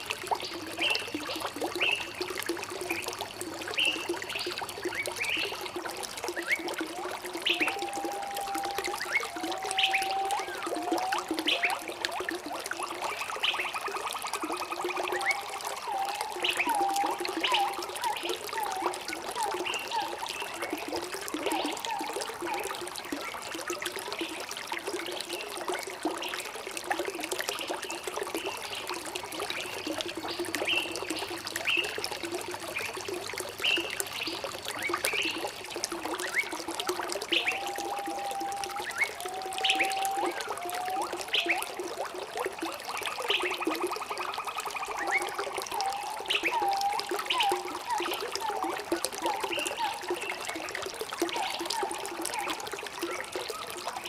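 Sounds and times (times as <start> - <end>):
water trickling and bubbling: 0.0 - 54.0.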